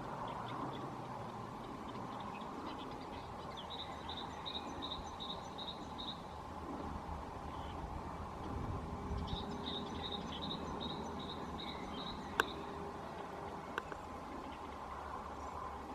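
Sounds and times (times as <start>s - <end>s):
low outdoor rumble: 0.0s - 15.9s
small birds chirping: 0.0s - 15.9s.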